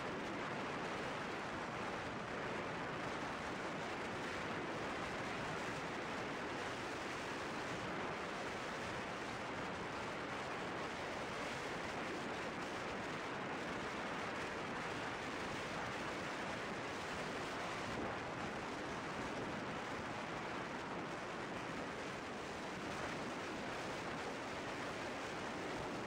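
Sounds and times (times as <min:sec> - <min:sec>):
wind rushing over microphone: 0:00.1 - 0:26.0.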